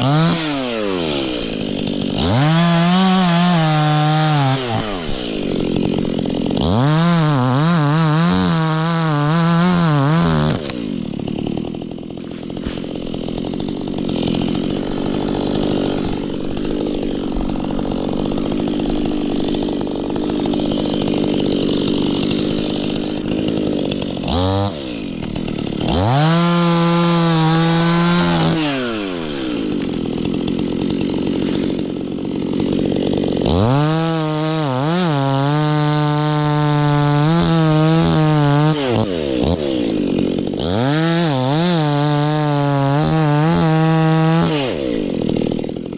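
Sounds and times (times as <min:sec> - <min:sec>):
chainsaw cutting wood: 0:00.0 - 0:45.9
chainsaw revving: 0:00.0 - 0:45.9.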